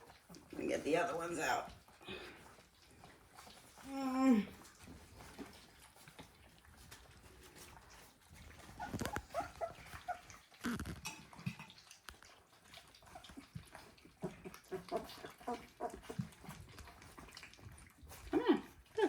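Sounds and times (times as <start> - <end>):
puppies whimpering and squeaking: 0.0 - 19.0.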